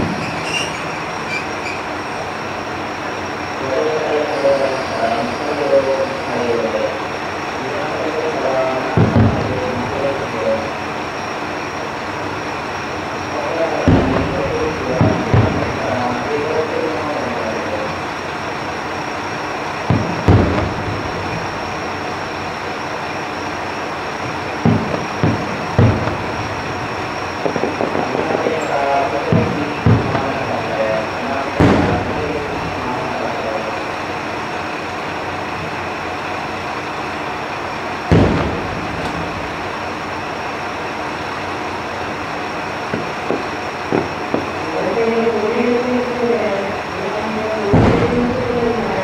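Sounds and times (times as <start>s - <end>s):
distant firework booms: 0.0s - 4.2s, 7.0s - 46.4s, 47.2s - 49.0s
diesel railcar idling: 0.0s - 49.0s
steady background rumble: 0.0s - 49.0s.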